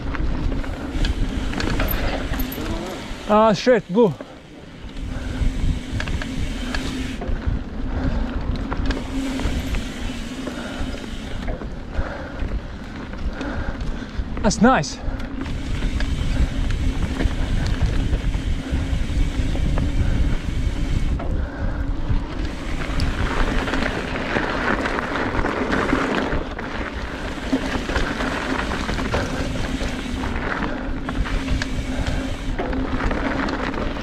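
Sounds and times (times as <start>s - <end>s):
wind buffeting microphone: 0.0s - 3.3s, 4.6s - 34.0s
bike tyre rumble and rattle: 0.0s - 34.0s.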